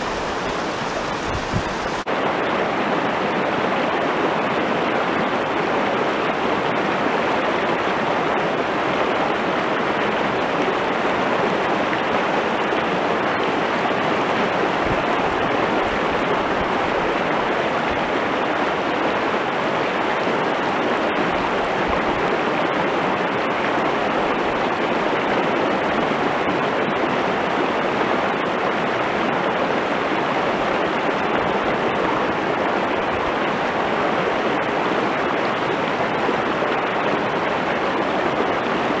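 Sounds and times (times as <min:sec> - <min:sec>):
river rushing over stones: 0:00.0 - 0:39.0.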